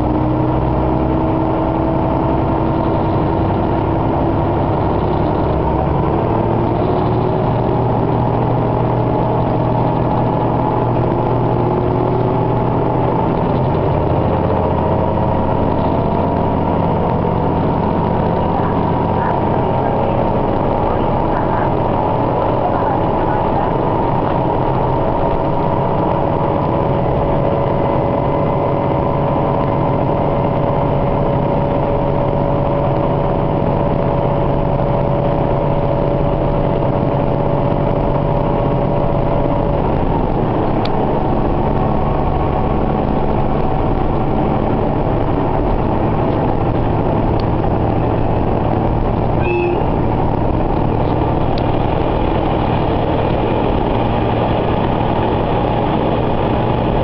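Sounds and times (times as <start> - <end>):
train engine and running rumble: 0.0 - 57.0.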